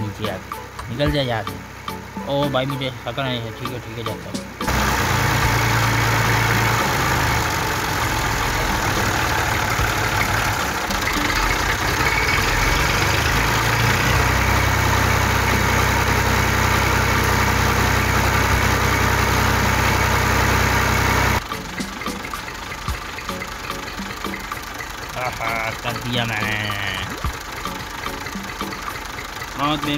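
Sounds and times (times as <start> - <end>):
tractor engine idling: 0.0 - 29.9.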